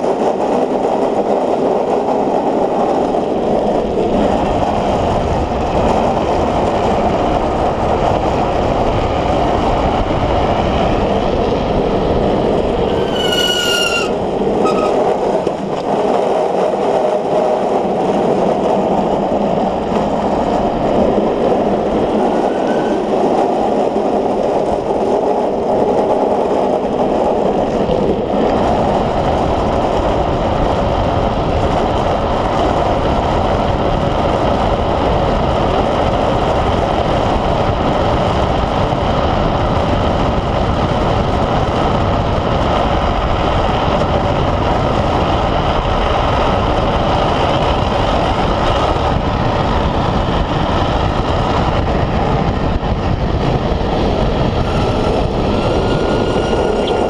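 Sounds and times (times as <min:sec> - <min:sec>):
tyre noise on asphalt: 0:00.0 - 0:57.0
wind rushing: 0:00.0 - 0:57.0
heavy low rumble: 0:01.0 - 0:57.0.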